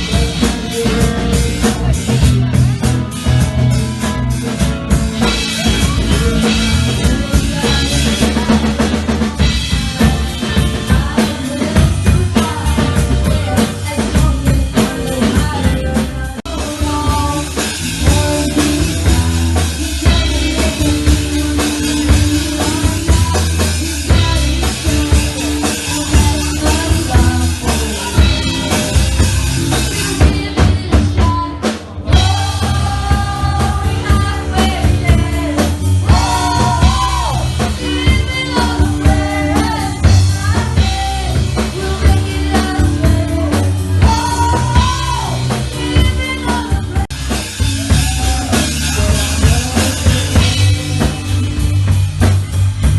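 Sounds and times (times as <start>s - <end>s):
drum kit beat: 0.0s - 52.9s
live rock band playing: 0.0s - 52.9s.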